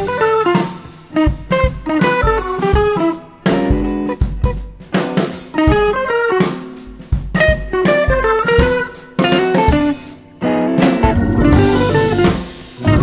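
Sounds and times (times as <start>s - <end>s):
guitar melody over drums: 0.0s - 13.0s.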